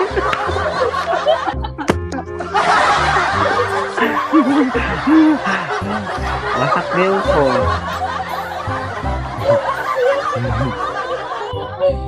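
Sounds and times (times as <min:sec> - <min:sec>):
background music: 0:00.0 - 0:12.0
people laughing: 0:00.0 - 0:12.0.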